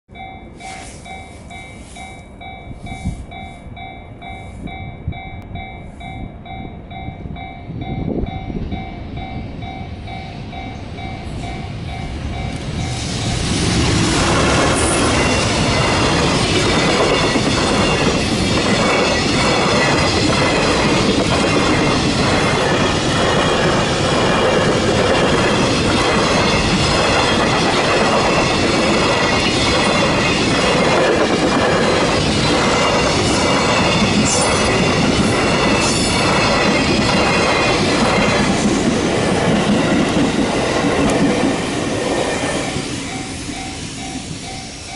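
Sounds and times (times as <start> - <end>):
level crossing warning bell: 0.1 - 13.1, 14.8 - 38.6, 42.4 - 44.9
train passing: 0.1 - 44.9
train wheels clicking on rail joints: 0.1 - 44.9.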